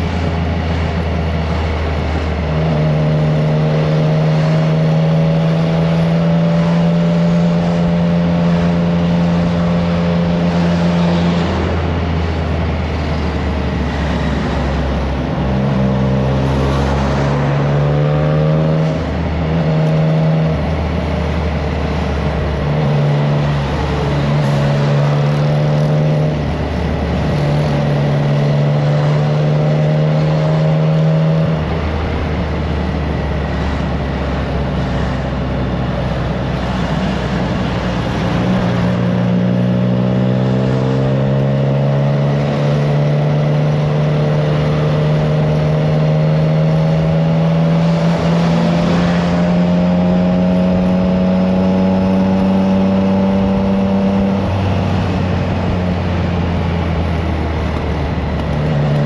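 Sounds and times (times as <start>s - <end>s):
wind rushing over microphone: 0.0s - 59.0s
motorcycle engine revving while riding: 0.1s - 59.0s.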